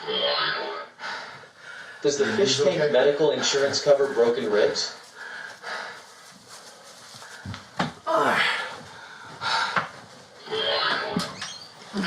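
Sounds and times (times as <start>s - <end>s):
person panting and wheezing: 0.9s - 11.2s.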